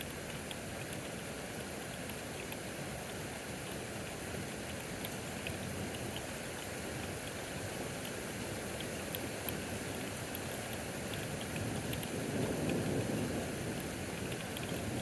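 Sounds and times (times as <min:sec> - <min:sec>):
heavy rain falling: 0:00.0 - 0:15.0
raindrops ticking on a surface: 0:00.0 - 0:15.0.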